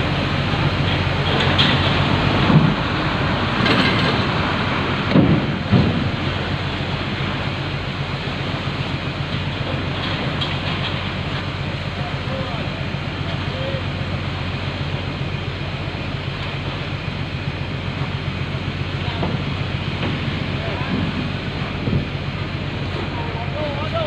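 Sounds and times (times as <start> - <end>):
continuous rushing noise: 0.0 - 24.0
ship engines droning: 0.0 - 24.0.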